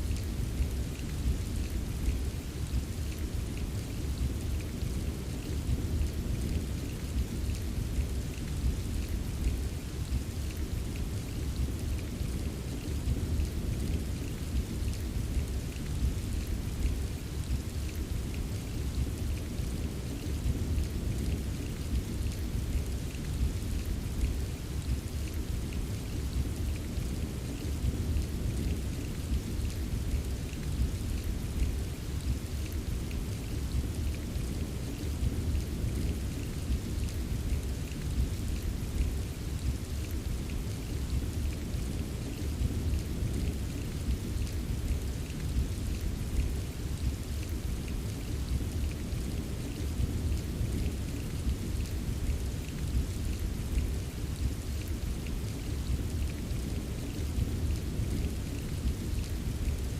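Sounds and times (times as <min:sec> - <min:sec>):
deep rain rumble: 0:00.0 - 0:59.9
raindrops pattering: 0:00.0 - 0:59.9.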